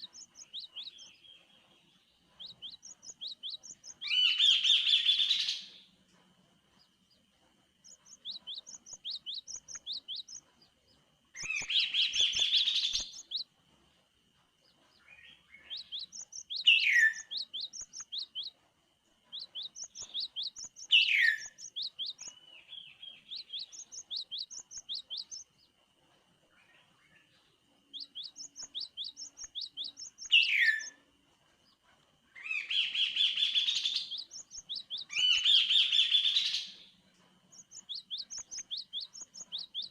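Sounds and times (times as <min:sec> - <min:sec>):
bird singing high chipping notes: 0:00.0 - 0:05.9, 0:06.7 - 0:13.5, 0:14.6 - 0:18.6, 0:19.2 - 0:25.8, 0:26.6 - 0:31.0, 0:31.6 - 0:39.9.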